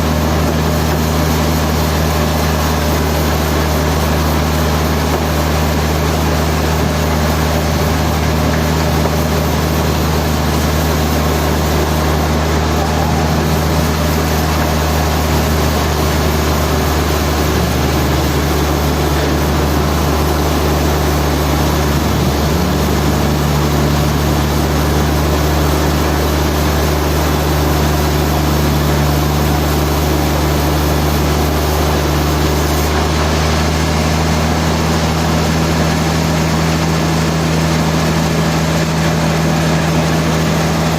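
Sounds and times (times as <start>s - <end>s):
sawmill motor hum: 0.0s - 40.9s.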